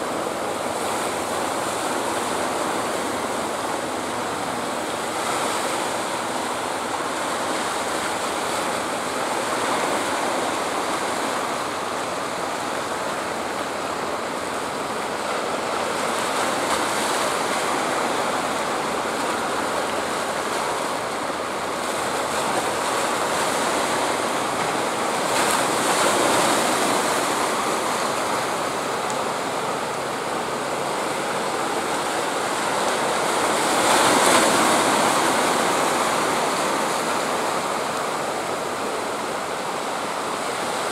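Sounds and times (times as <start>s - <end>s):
surf breaking against rocks: 0.1s - 40.9s.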